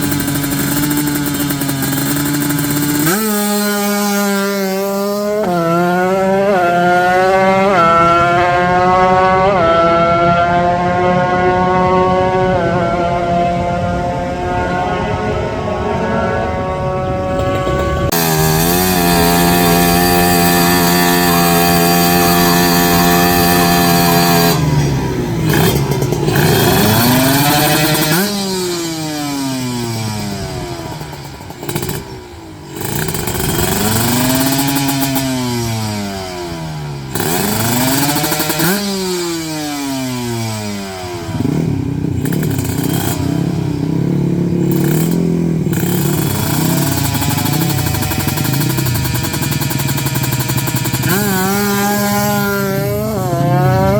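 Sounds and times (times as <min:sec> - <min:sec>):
motorcycle engines revving hard: 0:00.0 - 0:53.9.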